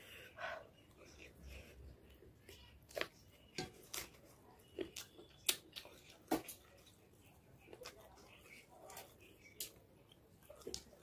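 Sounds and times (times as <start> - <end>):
chewing: 0.8 - 11.0.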